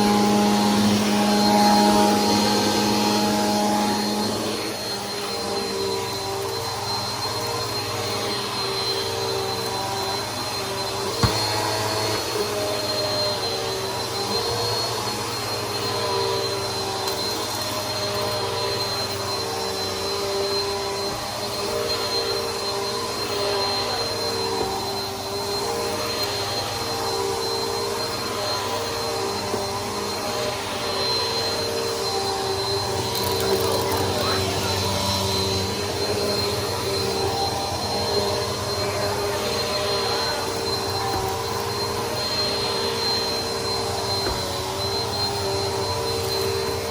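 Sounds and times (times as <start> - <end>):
upright vacuum running: 0.0 - 46.9.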